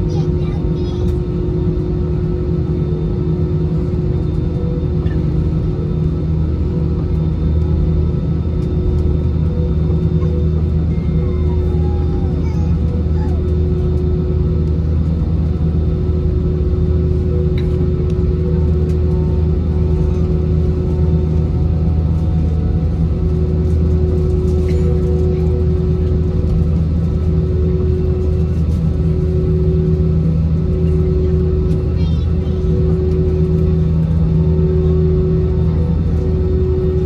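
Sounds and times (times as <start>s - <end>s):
aircraft engines rumbling: 0.0s - 37.0s
steady cabin hum: 0.0s - 37.0s.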